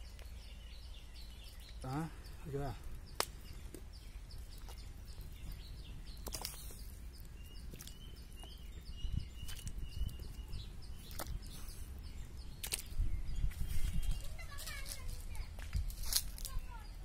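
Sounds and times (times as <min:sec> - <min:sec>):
small bird chirping: 0:00.0 - 0:17.0
wind rumble on microphone: 0:02.9 - 0:17.0.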